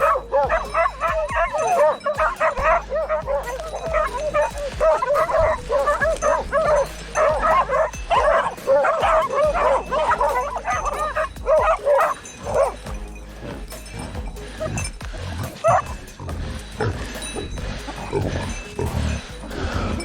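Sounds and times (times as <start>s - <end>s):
dogs baying and barking: 0.0s - 20.0s.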